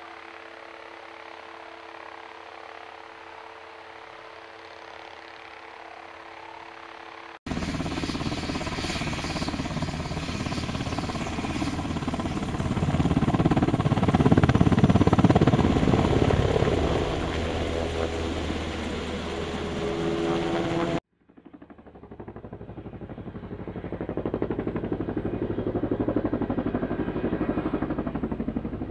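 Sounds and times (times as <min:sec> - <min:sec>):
helicopter rotor beating: 0:00.0 - 0:28.9.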